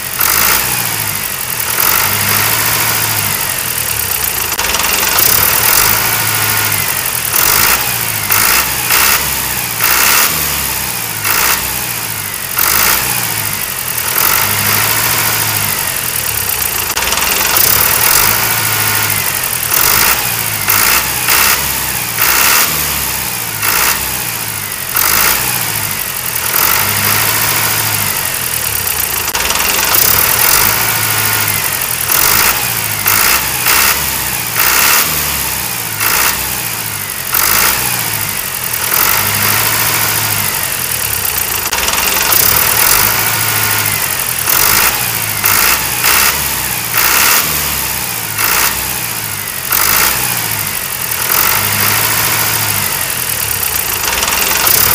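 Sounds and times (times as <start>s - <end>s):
tractor engine chugging and revving: 0.0s - 54.9s.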